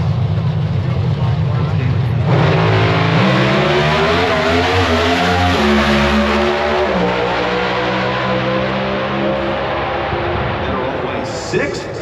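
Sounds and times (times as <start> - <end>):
drag racing engines at full throttle: 0.0 - 12.0.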